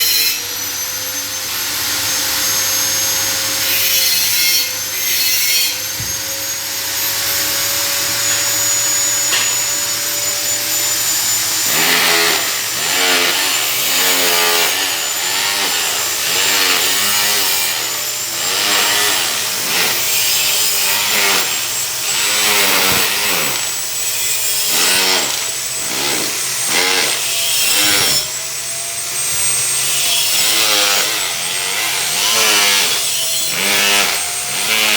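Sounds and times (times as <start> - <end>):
power tool motor whine: 0.0 - 34.9.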